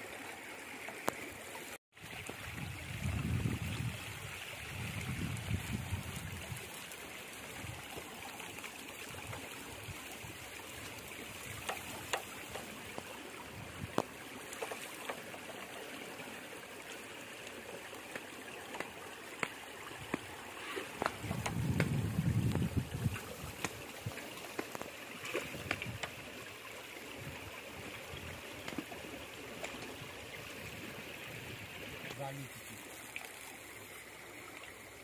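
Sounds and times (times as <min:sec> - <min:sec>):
water trickling and splashing: 0:00.0 - 0:35.0.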